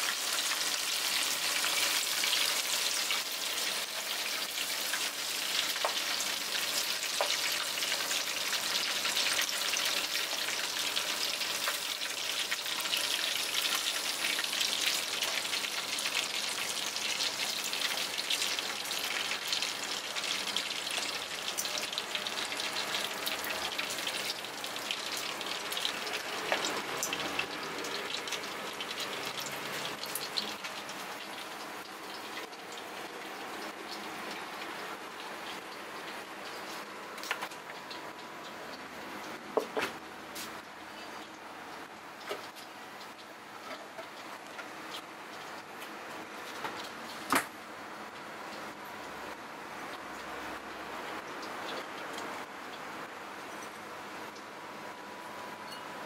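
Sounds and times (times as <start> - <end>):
crabs deep-frying in oil: 0.0 - 56.0.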